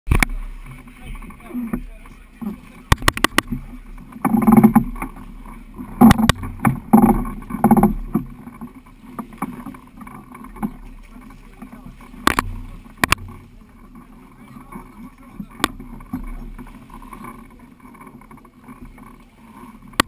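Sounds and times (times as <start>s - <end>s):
faint wind: 0.1s - 20.0s
water lapping: 0.1s - 20.0s.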